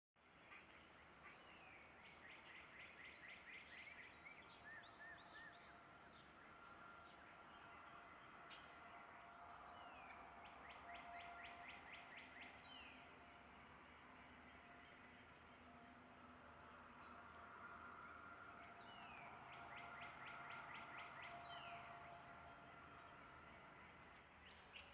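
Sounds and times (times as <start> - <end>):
faint steady hum: 0.2 - 24.9
birds chirping and trilling: 0.4 - 24.9.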